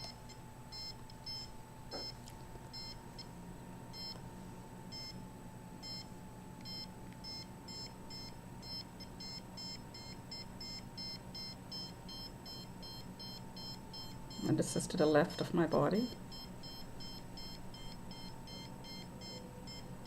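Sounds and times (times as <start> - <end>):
meter beeping: 0.0 - 3.3, 3.9 - 4.2, 4.9 - 5.2, 5.8 - 20.0.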